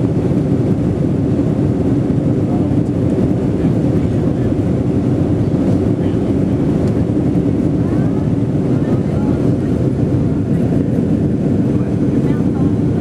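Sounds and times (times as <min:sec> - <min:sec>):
jet engines droning in cabin: 0:00.0 - 0:13.0.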